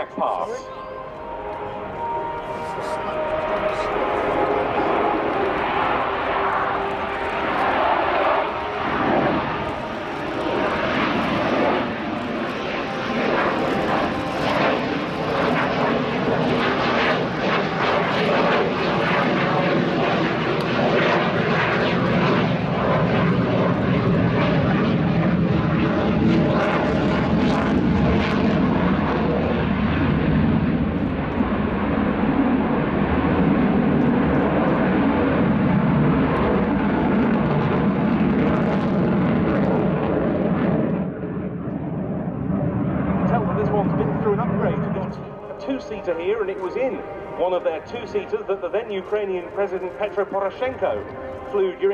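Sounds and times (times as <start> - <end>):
jet engines roaring: 0.0 - 51.9
jet engine crackle: 2.2 - 51.9.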